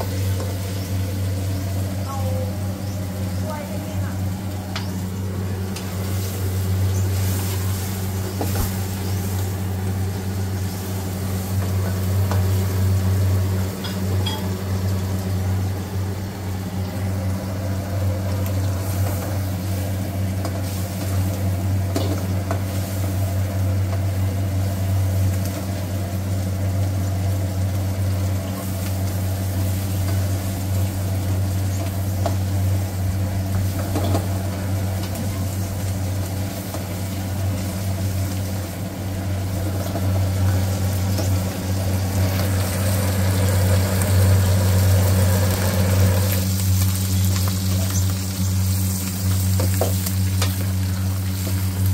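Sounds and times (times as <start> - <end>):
rice sizzling in a wok: 0.0 - 51.9
steady low hum: 0.0 - 51.9.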